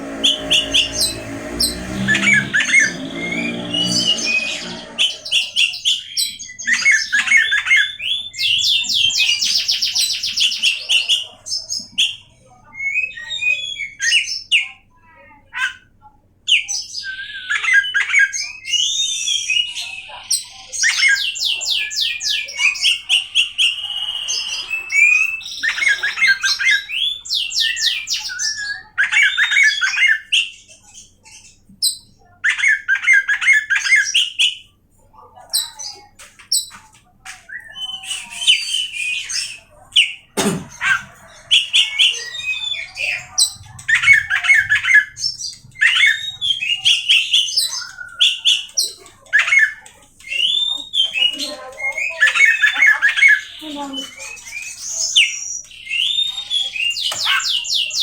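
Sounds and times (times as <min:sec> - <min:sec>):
bird singing varied song: 0:00.0 - 0:14.9, 0:15.6 - 0:34.7, 0:35.4 - 0:58.0.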